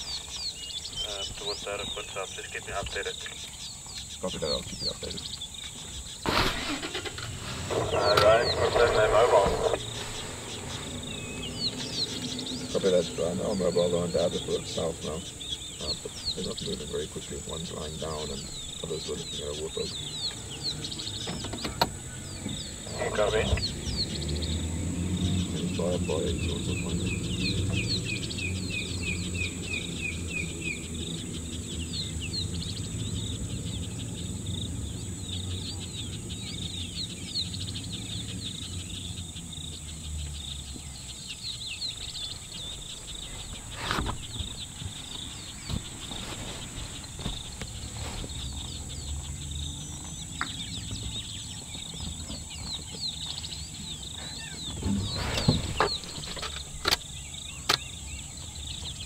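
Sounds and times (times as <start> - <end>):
high insect drone: 0.0 - 49.9
small birds chirping: 0.0 - 59.0
vehicle engine hum: 0.0 - 59.0.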